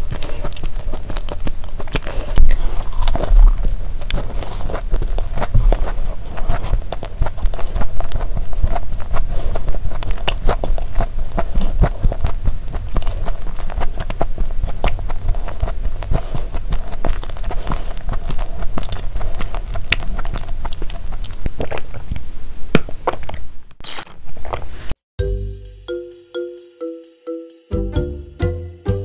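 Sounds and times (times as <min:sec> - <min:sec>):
wet mouth clicks: 0:00.0 - 0:23.5
close chewing of cookie: 0:00.0 - 0:24.7.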